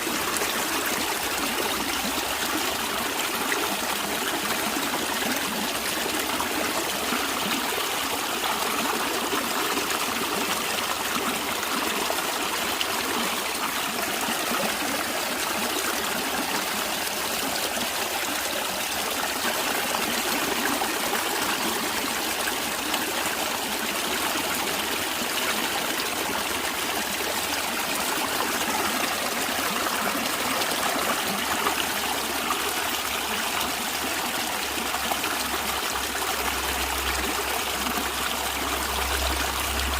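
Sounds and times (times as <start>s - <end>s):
stream of water trickling: 0.0s - 39.9s.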